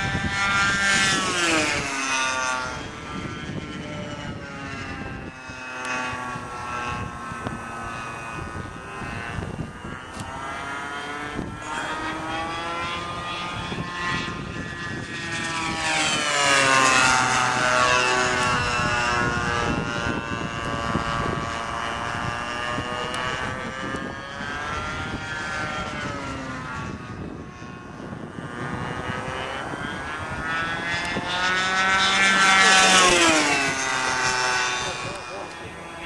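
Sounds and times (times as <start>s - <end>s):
model airplane engine with propeller buzz: 0.0s - 36.0s.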